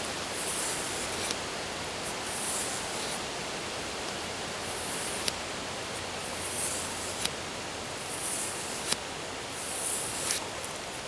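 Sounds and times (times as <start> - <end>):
campfire burning with hiss: 0.0 - 11.0.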